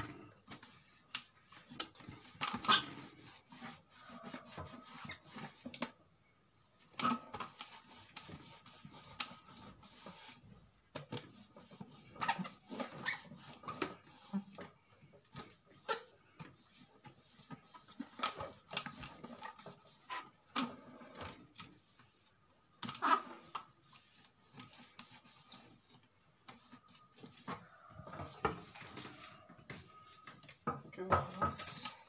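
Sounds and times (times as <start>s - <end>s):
hands rubbing plastic: 0.1s - 6.0s, 6.8s - 30.8s.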